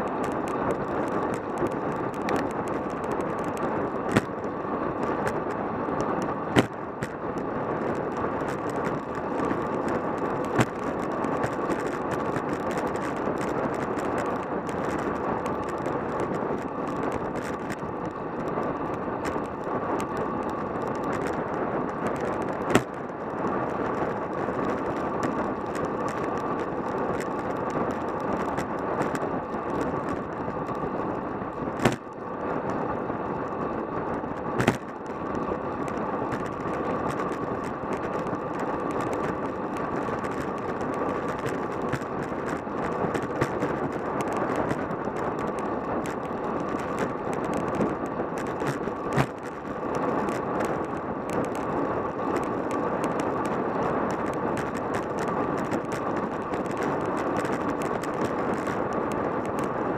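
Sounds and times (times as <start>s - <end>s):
bicycle tyre noise: 0.0s - 59.9s.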